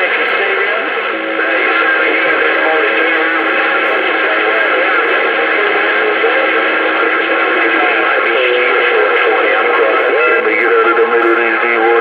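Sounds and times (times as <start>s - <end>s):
garbled radio tones: 0.0s - 12.0s
radio hum: 0.0s - 12.0s.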